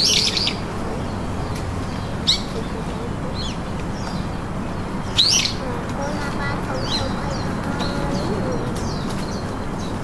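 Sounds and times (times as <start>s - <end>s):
birds chirping: 0.0s - 10.0s
steady background noise: 0.0s - 10.0s.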